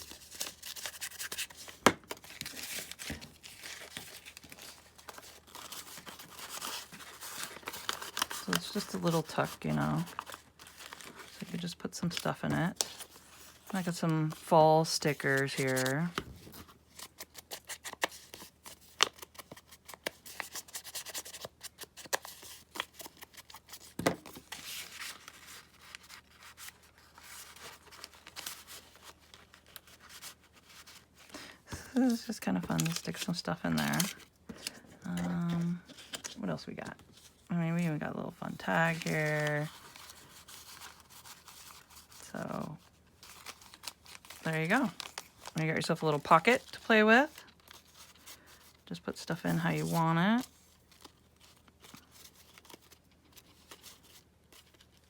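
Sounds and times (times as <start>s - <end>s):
paper rustling and rubbing: 0.0s - 48.8s, 49.4s - 55.0s.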